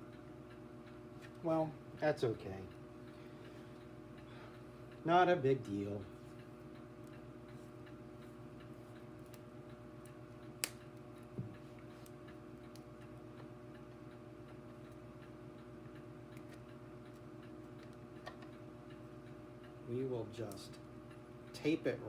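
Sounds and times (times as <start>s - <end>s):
electrical hum: 0.0s - 22.0s
faint regular ticking: 0.0s - 22.0s.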